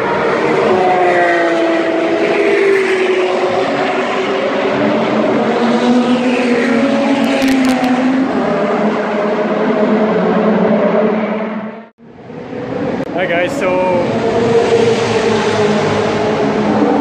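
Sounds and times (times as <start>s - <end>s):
sports car engines passing: 0.0s - 17.0s.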